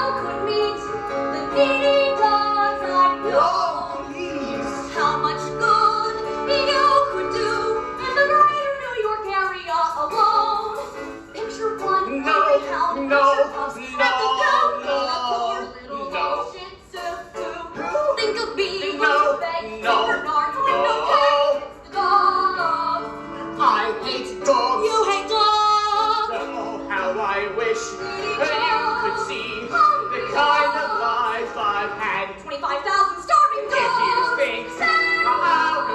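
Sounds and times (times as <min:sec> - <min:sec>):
woman singing: 0:00.0 - 0:26.4, 0:27.6 - 0:35.9
instrumental accompaniment: 0:00.0 - 0:35.9.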